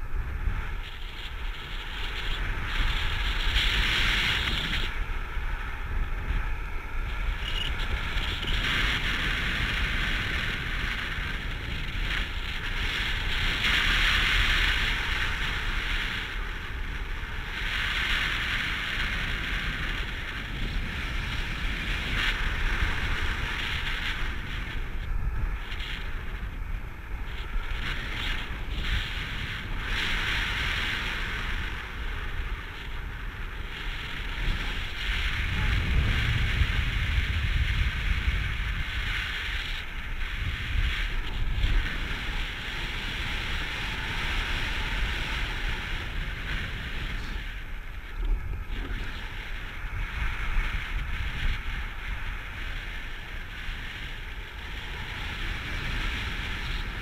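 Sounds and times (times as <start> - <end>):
low gusty rumbles: 0.0 - 57.0
wind buffeting microphone: 0.0 - 57.0.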